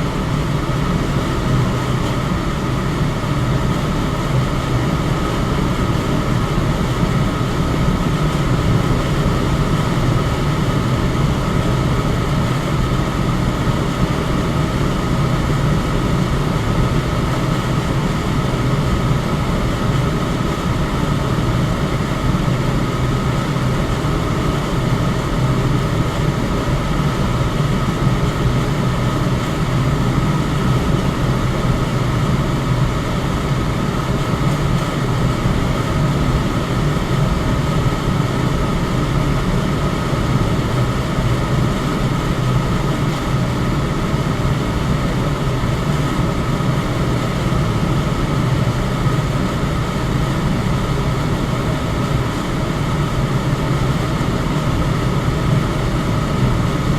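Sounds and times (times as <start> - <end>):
electric fan running: 0.0 - 56.9.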